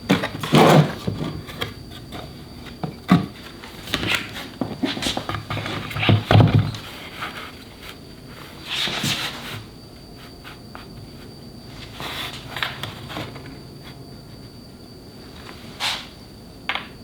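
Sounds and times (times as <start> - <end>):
scraping rustles: 0.1 - 14.6.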